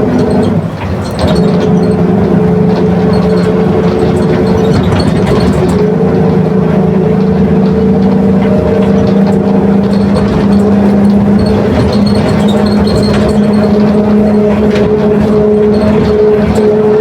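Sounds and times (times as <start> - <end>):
bus differential gear whine: 0.0 - 17.0
bus running noise: 0.0 - 17.0.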